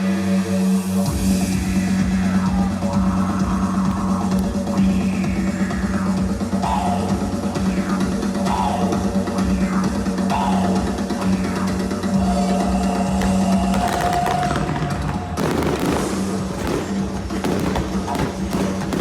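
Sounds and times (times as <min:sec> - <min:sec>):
rock music with drum kit: 0:01.1 - 0:19.0.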